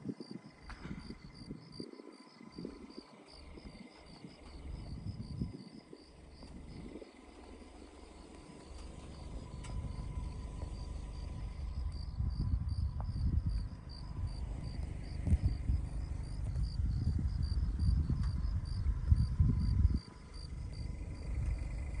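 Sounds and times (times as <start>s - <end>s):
crickets chirping: 0.0s - 22.0s
low rumbling microphone noise: 0.0s - 22.0s.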